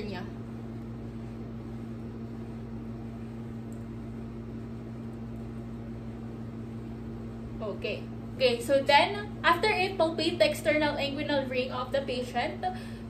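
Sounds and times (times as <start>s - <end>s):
low electrical hum with hiss: 0.0s - 13.0s.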